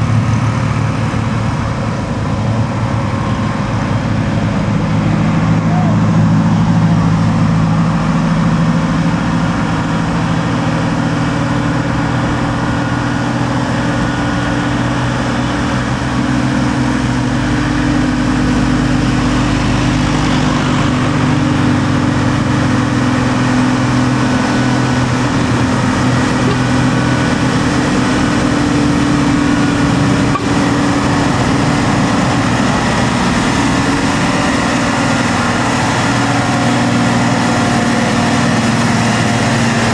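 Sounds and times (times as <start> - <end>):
truck diesel engine passing: 0.0 - 39.9.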